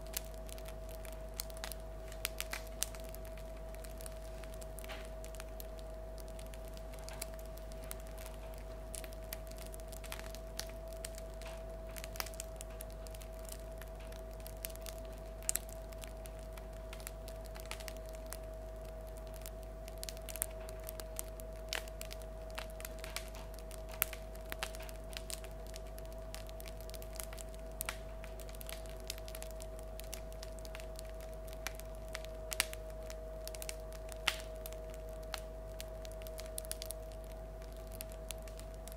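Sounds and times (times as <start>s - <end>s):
bread crust crackling: 0.0s - 38.9s
steady low hum: 0.0s - 38.9s.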